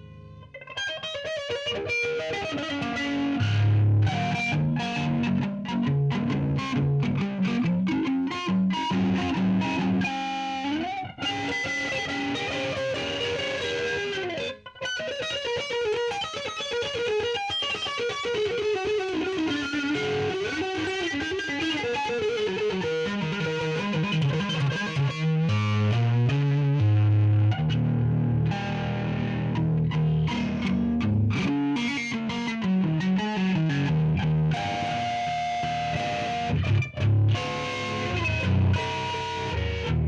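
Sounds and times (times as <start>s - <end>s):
electric guitar with flanger: 0.0s - 40.0s.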